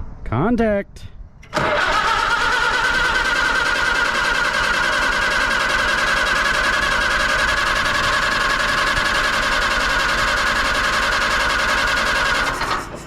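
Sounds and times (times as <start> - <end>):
engine cranked by starter: 1.4 - 13.0.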